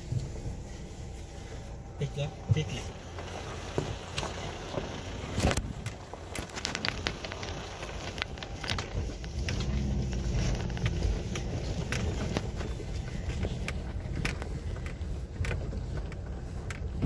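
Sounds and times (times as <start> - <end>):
off-road vehicle engine rumble: 0.0 - 17.0.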